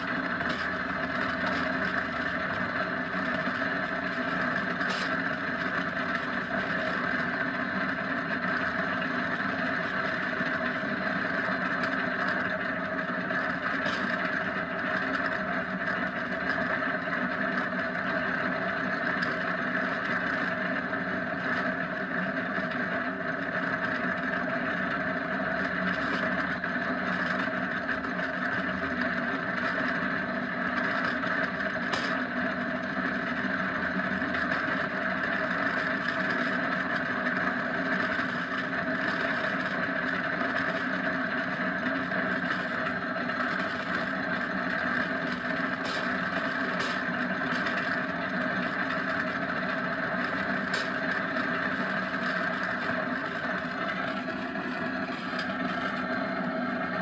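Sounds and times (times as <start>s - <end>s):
kart rolling on asphalt: 0.0s - 57.0s.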